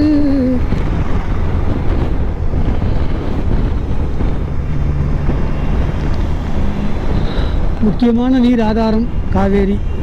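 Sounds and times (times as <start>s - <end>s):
car cabin road and wind noise: 0.0s - 10.0s.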